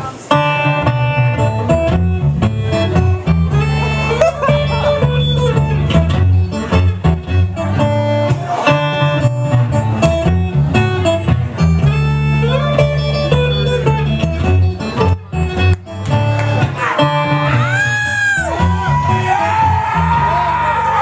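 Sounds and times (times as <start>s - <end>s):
acoustic guitar fingerpicking: 0.2s - 17.6s.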